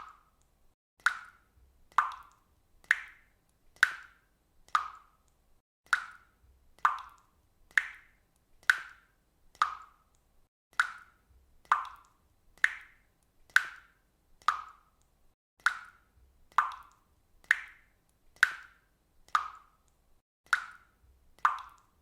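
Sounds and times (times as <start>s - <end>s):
water dripping: 0.0s - 22.0s.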